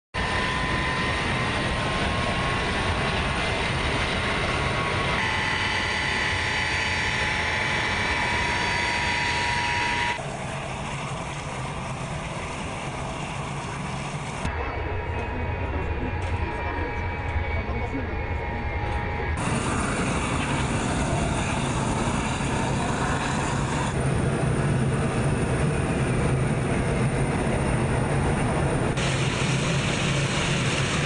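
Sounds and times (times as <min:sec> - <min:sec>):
high engine whine: 0:00.2 - 0:31.0
jet engines running: 0:00.2 - 0:31.0.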